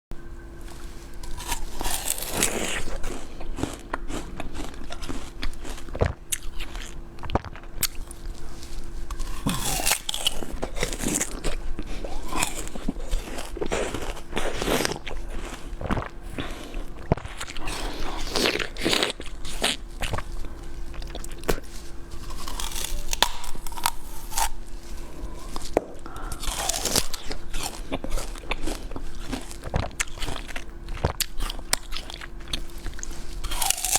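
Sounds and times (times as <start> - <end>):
faint steady hum: 0.1 - 33.9
person biting and chewing: 0.8 - 33.9.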